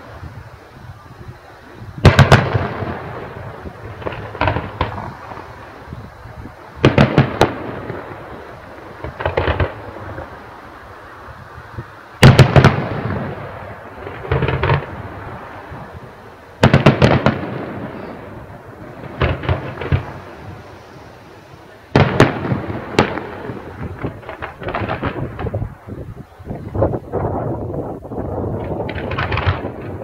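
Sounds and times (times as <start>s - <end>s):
fireworks bursting with sharp bangs: 0.0s - 30.0s.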